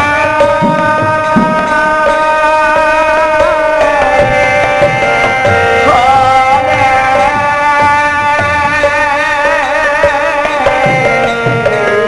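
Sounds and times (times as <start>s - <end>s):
tabla: 0.0s - 12.0s.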